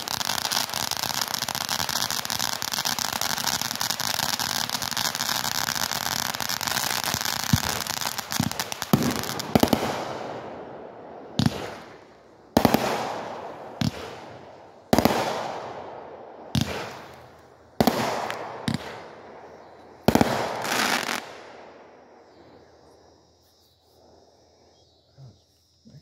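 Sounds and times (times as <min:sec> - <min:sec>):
fireworks bangs: 0:00.0 - 0:22.7.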